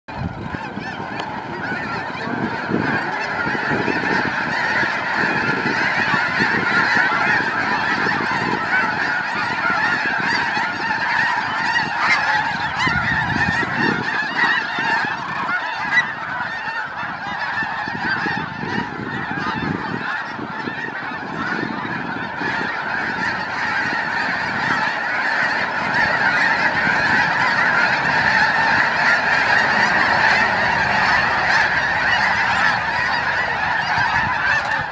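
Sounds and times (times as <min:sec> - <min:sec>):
geese honking: 0:00.1 - 0:34.9.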